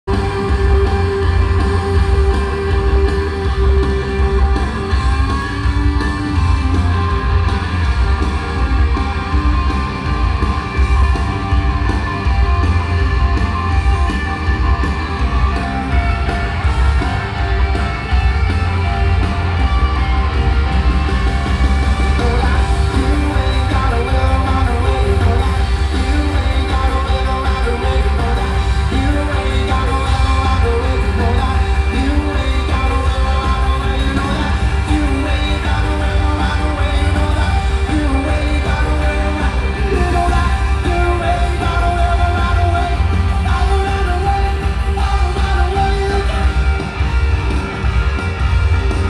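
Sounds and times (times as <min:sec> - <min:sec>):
electric guitar: 0:00.0 - 0:49.0
live rock band playing: 0:00.0 - 0:49.0.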